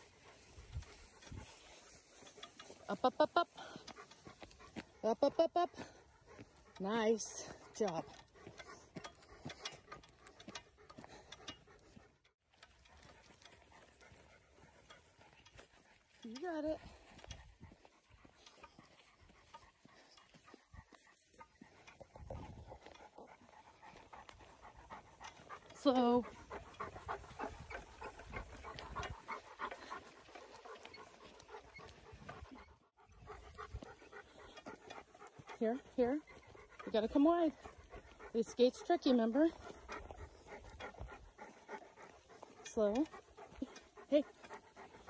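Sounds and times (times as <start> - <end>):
dog panting: 0.0 - 45.0.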